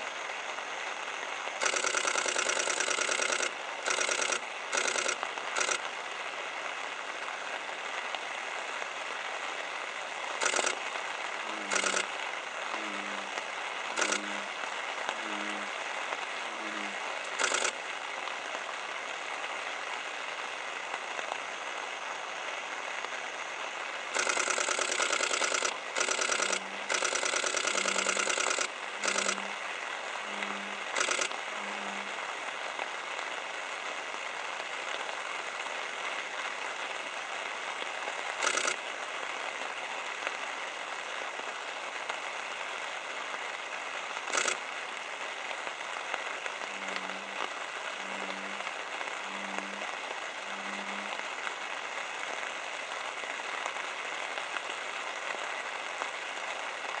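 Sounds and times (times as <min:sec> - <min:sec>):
outdoor background hiss: 0:00.0 - 0:57.0.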